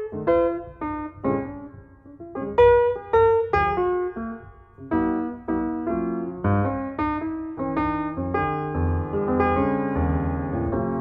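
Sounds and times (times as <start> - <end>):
piano-like keyboard melody: 0.0 - 11.0.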